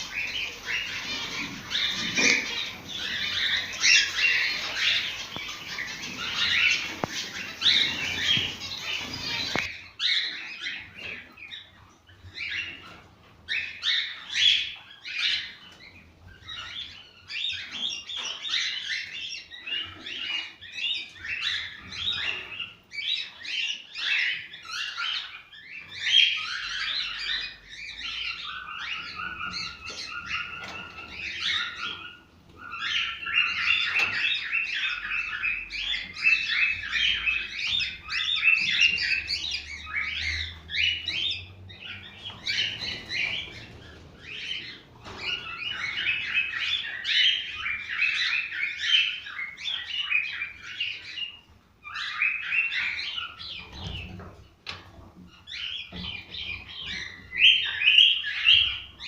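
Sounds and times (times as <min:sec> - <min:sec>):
cockatiels chirping and warbling: 0:00.0 - 0:59.0.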